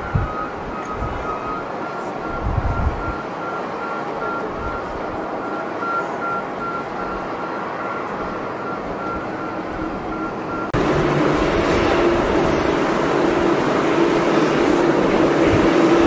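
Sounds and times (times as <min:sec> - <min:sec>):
close jet engine hum: 0:00.0 - 0:16.0
distant jet engine roar: 0:00.0 - 0:16.0.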